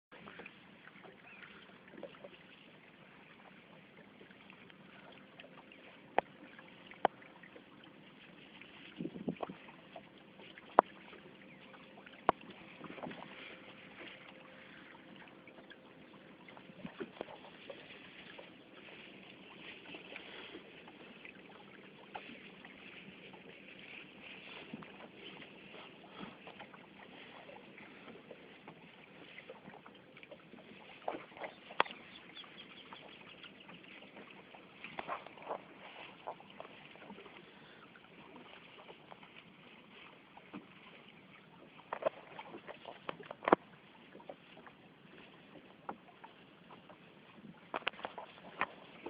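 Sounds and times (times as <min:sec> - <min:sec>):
faint water and hiss: 0:00.1 - 0:49.0.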